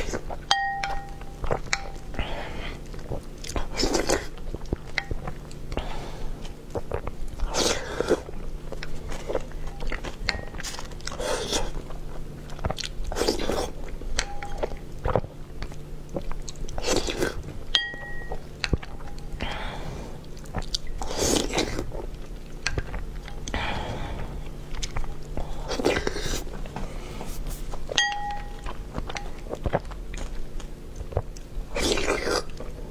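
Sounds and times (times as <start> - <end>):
person biting and chewing food: 0.0 - 32.9.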